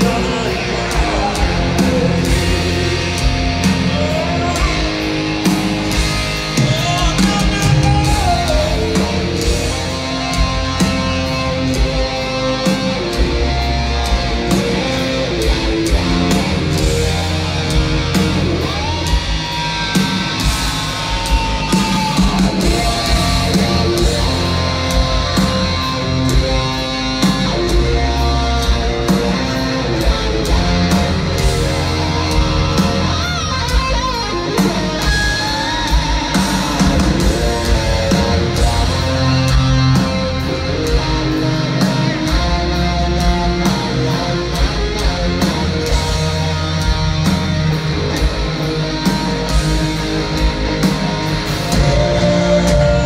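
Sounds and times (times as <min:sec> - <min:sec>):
live heavy rock band: 0:00.0 - 0:53.0.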